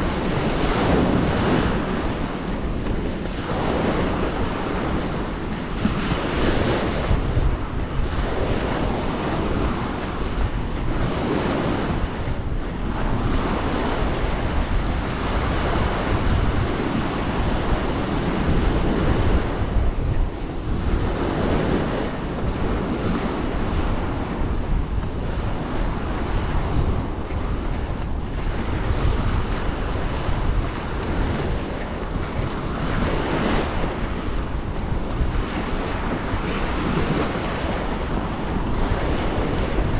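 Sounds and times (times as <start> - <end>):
small waves breaking on shore: 0.0 - 39.9
wind buffeting microphone: 0.0 - 39.9.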